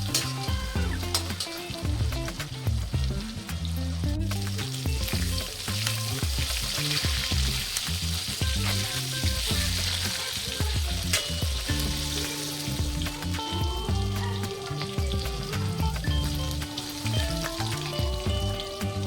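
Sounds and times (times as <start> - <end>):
background music bass line: 0.0 - 19.0
chicken sizzling in hot oil: 0.0 - 19.0.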